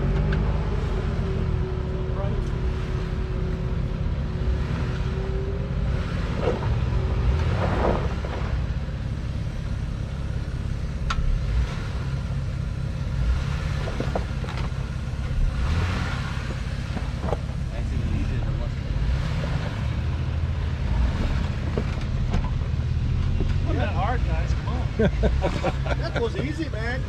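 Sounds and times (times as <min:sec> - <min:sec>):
engine rumbling at low revs: 0:00.0 - 0:27.0.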